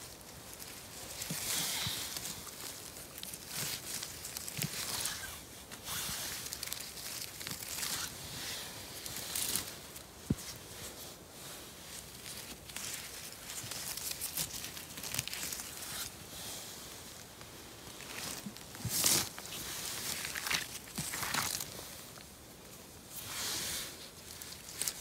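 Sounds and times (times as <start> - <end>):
footsteps through dry leaves: 0.0 - 22.3.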